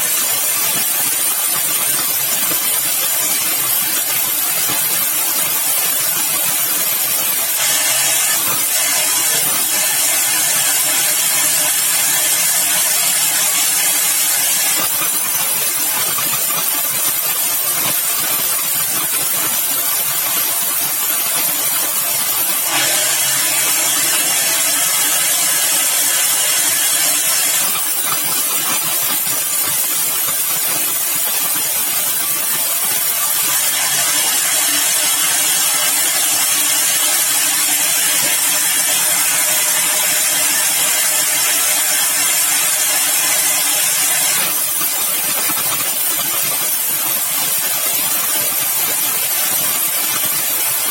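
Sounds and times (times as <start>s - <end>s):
sawmill machinery hissing: 0.0s - 50.8s.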